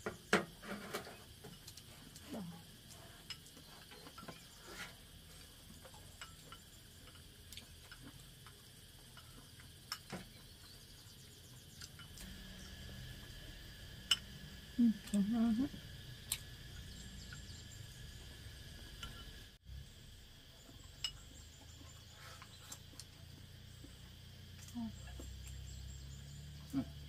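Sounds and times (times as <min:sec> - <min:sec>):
faint low hum: 0:00.0 - 0:27.0
insects chirring: 0:00.0 - 0:27.0.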